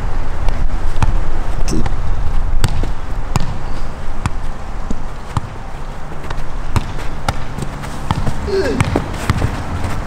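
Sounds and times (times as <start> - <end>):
soccer ball kick thuds: 0.4 - 10.0.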